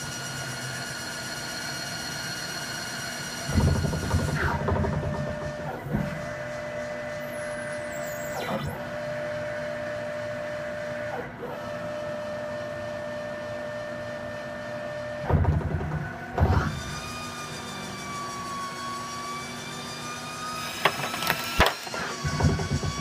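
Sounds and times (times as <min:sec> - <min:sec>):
lathe whine: 0:00.0 - 0:15.3, 0:16.2 - 0:23.0.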